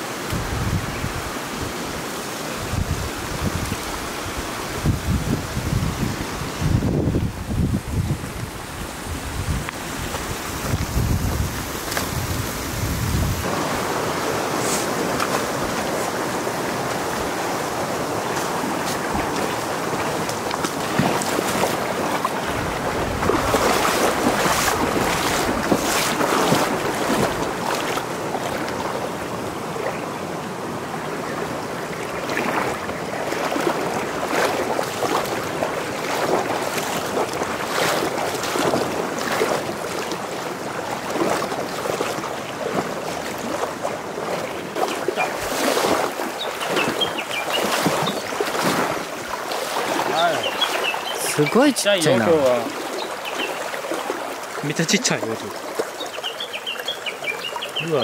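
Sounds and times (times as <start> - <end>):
flowing water rushing: 0.0 - 58.0
splashing footsteps in stream: 8.1 - 58.0.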